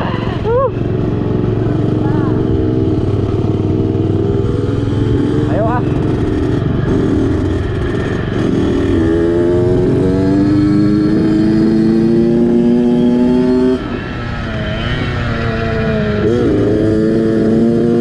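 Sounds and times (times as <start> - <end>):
dirt bike engine accelerating: 0.0 - 18.0.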